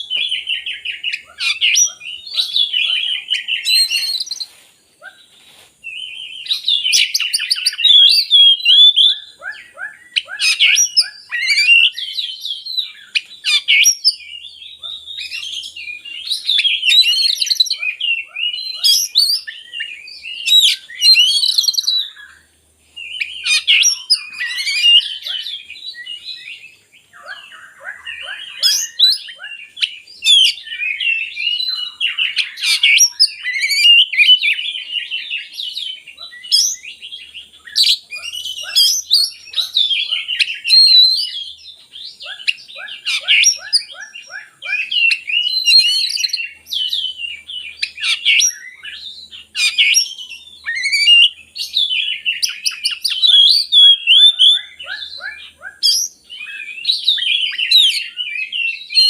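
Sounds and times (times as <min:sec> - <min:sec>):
magpie-robin singing: 0:00.0 - 0:04.5, 0:05.9 - 0:22.4, 0:23.0 - 0:59.0.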